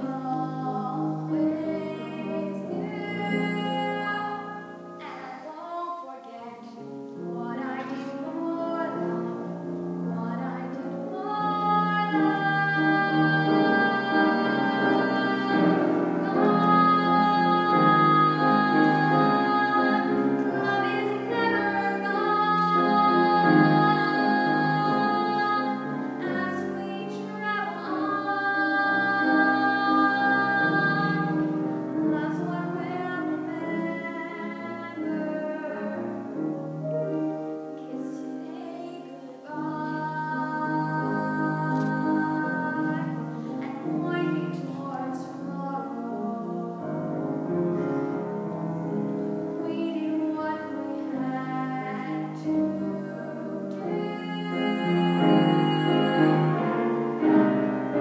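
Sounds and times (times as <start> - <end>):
woman singing: 0.0 - 36.4, 37.8 - 47.6, 49.6 - 58.0
grand piano accompaniment: 0.0 - 58.0.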